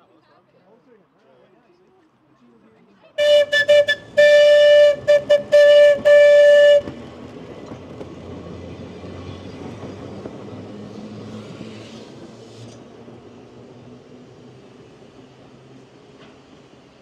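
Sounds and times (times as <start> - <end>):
tram motors and wheels rumbling: 3.2 - 17.0.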